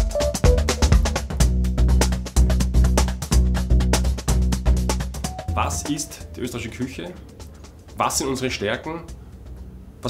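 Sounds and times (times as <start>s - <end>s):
music with percussive ticks: 0.0s - 10.0s.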